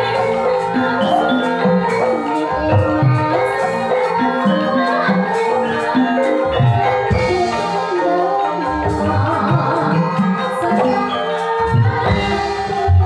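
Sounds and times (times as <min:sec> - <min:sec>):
metallophones ringing melody: 0:00.0 - 0:13.0.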